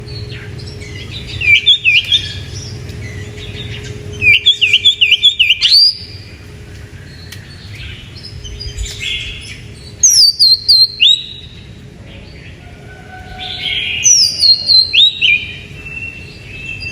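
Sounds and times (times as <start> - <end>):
bird singing whistled notes: 0.0 - 6.4, 7.1 - 11.7, 13.3 - 16.9
faint steady hum: 0.0 - 16.9.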